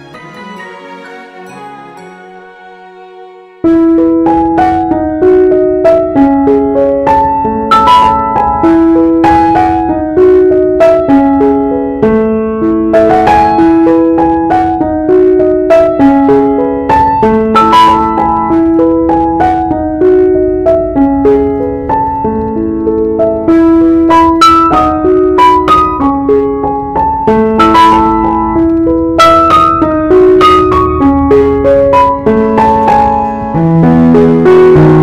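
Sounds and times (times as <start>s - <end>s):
slow piano melody: 0.0s - 35.0s.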